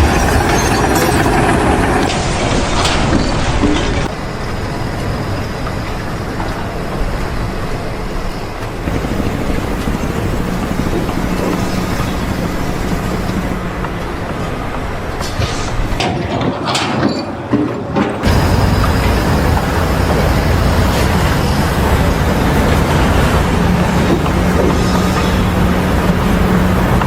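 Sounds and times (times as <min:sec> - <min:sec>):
heavy engine rumble: 0:00.0 - 0:27.0.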